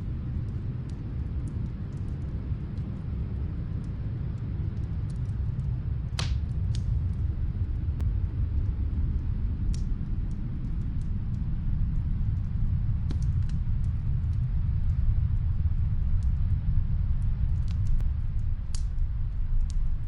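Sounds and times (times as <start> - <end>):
fireplace crackles: 0.0 - 20.0
snowstorm wind rumble: 0.0 - 20.0.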